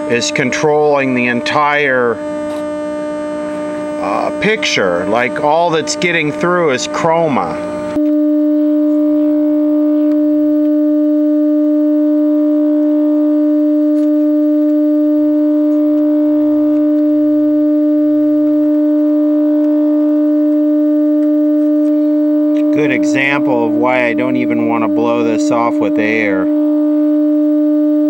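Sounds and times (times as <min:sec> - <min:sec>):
loud steady electronic tone: 0:00.0 - 0:28.0.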